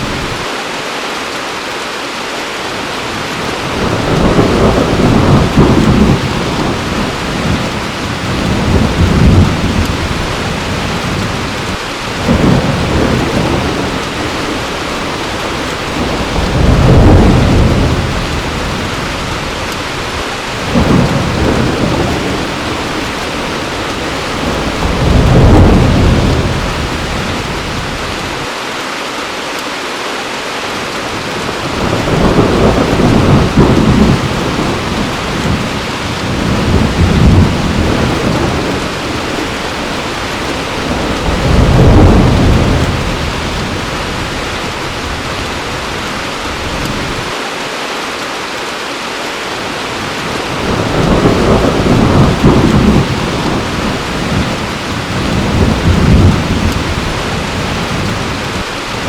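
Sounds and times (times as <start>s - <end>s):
heavy rain: 0.0s - 59.0s
thunder rumbling: 3.1s - 28.5s, 31.1s - 47.4s, 50.0s - 59.0s.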